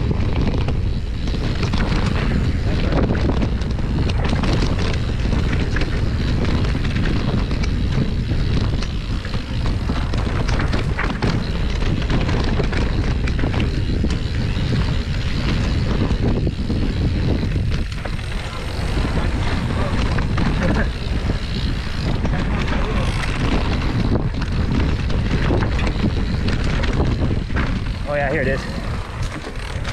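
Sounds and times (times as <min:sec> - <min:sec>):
bike clicks and rattles: 0:00.0 - 0:29.9
tyres over rough ground: 0:00.0 - 0:29.9
wind rumbling on microphone: 0:00.0 - 0:29.9.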